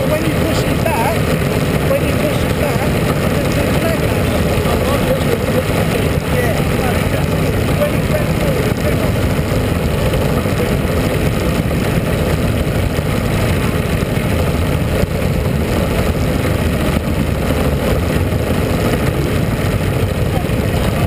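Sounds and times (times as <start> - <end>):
race car engines idling: 0.0 - 21.0.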